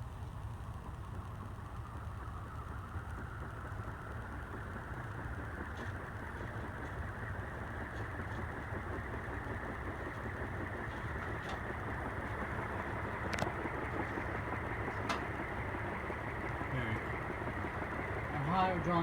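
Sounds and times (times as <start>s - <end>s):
ceiling fan air rushing: 0.0s - 19.0s.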